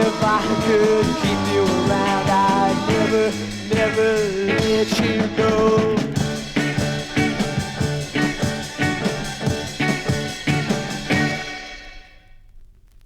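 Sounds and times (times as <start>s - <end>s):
garage rock band playing: 0.0s - 12.1s.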